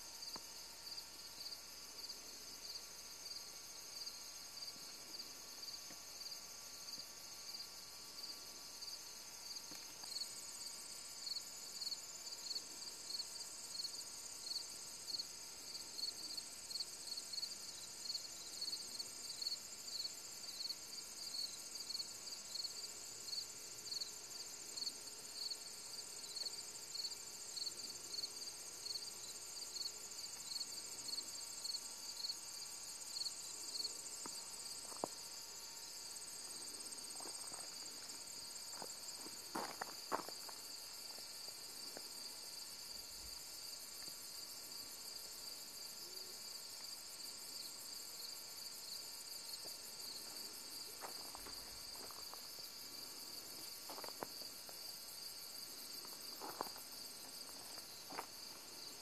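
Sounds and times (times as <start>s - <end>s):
insect chirping: 0.0s - 59.0s
insect trill: 0.0s - 59.0s.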